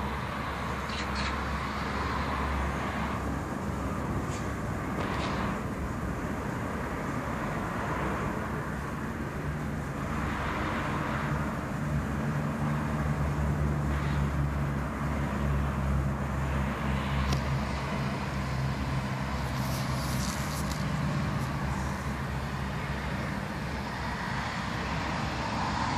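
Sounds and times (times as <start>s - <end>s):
road traffic: 0.0s - 25.9s.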